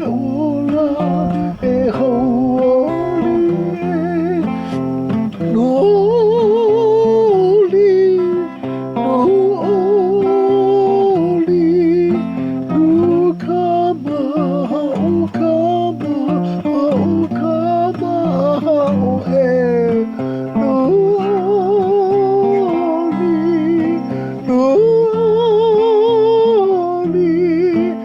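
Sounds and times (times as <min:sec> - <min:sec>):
acoustic guitar: 0:00.0 - 0:28.0
person singing a hymn: 0:00.0 - 0:28.0.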